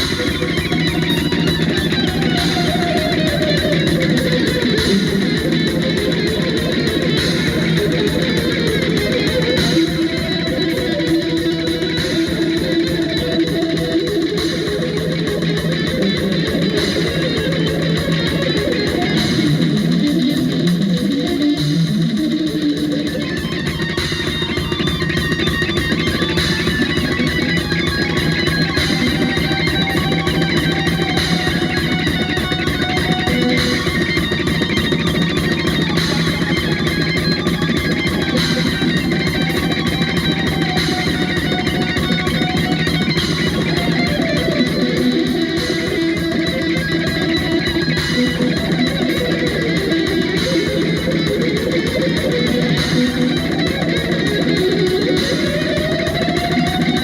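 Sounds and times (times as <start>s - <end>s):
bass guitar: 0.0s - 57.0s
electric guitar: 0.0s - 57.0s
live band music: 0.0s - 57.0s.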